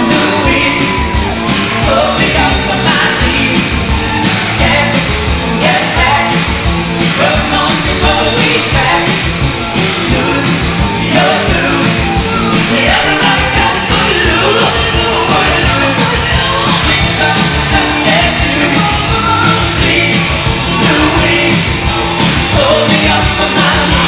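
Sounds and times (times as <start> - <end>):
rock and roll pop song: 0.0 - 24.0.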